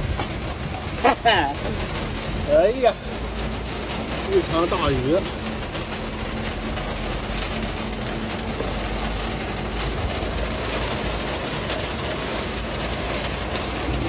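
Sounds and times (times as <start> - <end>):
heavy rain on a camper: 0.0 - 14.0.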